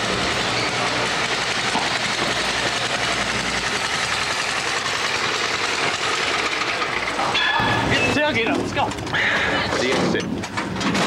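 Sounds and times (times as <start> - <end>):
small gasoline engine running: 0.0 - 9.6.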